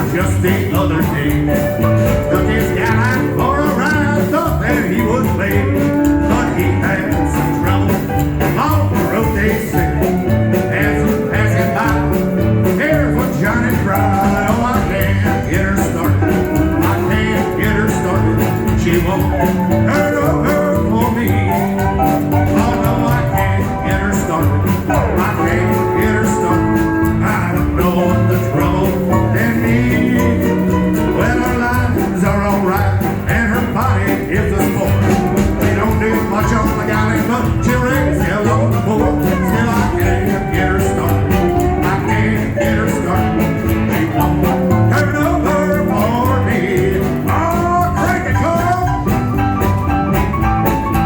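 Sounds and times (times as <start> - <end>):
live band playing: 0.0 - 51.0.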